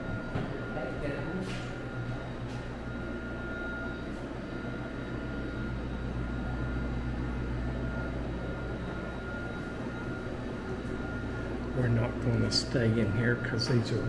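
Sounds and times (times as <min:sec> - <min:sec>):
faint high whine: 0:00.0 - 0:14.0
low machine hum: 0:00.0 - 0:14.0.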